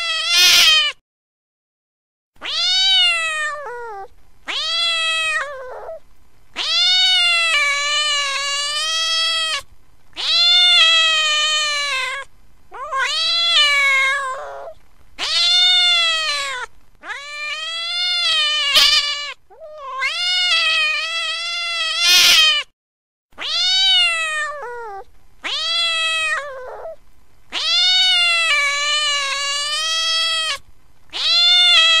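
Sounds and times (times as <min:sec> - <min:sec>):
cat meowing: 0:00.0 - 0:01.0, 0:02.4 - 0:06.0, 0:06.6 - 0:22.7, 0:23.4 - 0:32.0.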